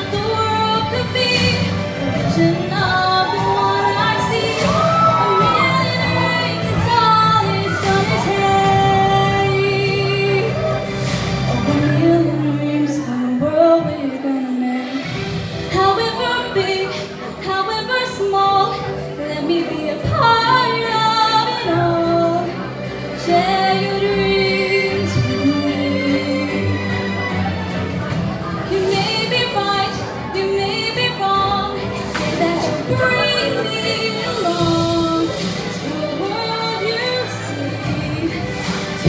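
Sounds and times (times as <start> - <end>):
woman singing pop ballad: 0.0 - 27.1, 28.6 - 39.0.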